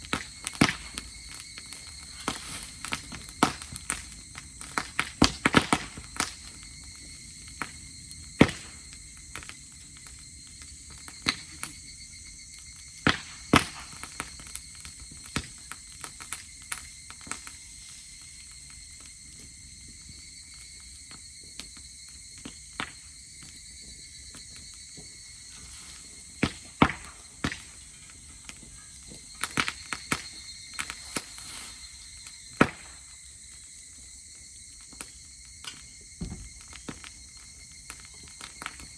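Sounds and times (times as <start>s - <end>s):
campfire crackling and popping: 0.0s - 38.9s
insect chirring: 0.0s - 38.9s.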